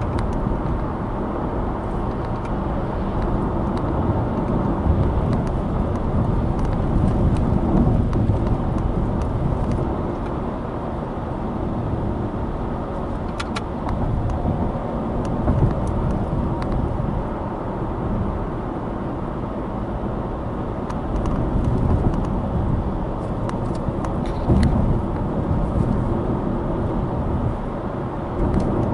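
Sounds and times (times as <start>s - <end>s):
car road noise and rumble: 0.0s - 28.9s.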